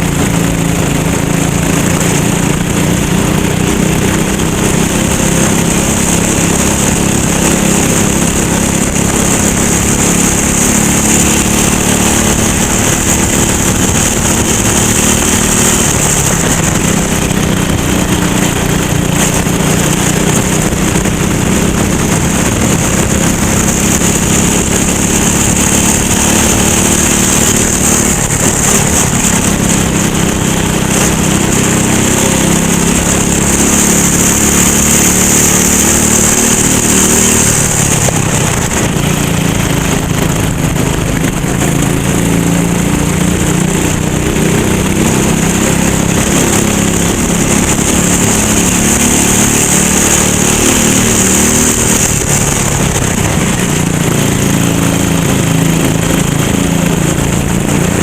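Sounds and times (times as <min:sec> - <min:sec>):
go-kart engine racing: 0:00.0 - 0:58.0.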